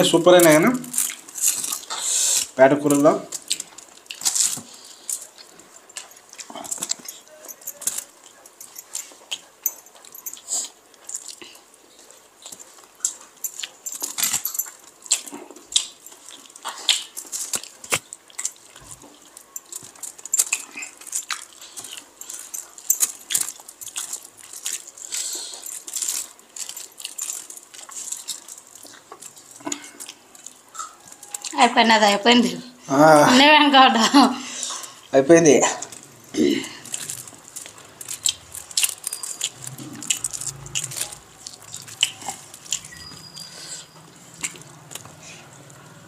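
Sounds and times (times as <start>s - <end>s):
fingers squishing rice on foil: 0.0s - 32.4s, 34.7s - 46.0s
wet chewing and lip smacks: 0.9s - 31.6s, 35.8s - 46.0s.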